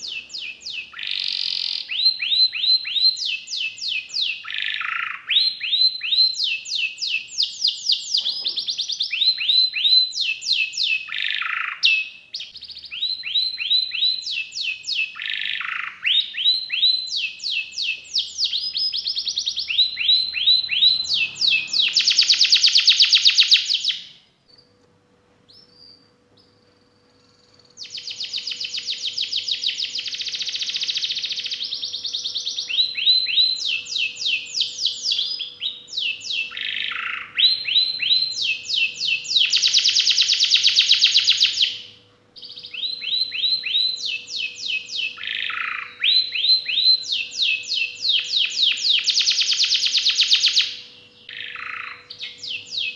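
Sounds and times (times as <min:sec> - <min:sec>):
canary singing: 0:00.0 - 0:24.7, 0:25.5 - 0:52.9.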